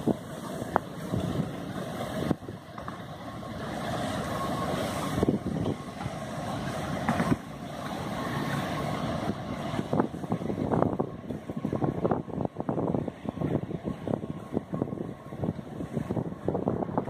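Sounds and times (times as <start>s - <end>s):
storm wind gusting: 0.0s - 17.0s
wind buffeting thumps: 0.0s - 17.0s.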